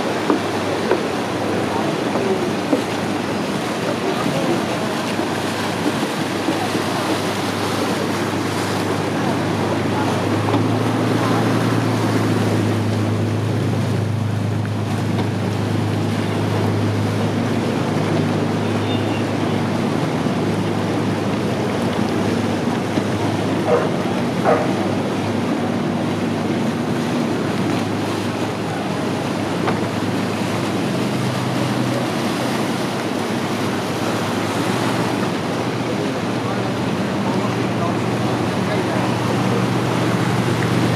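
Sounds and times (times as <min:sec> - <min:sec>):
motorboat engines droning: 0:00.0 - 0:40.9
rush of wind and water: 0:00.0 - 0:40.9.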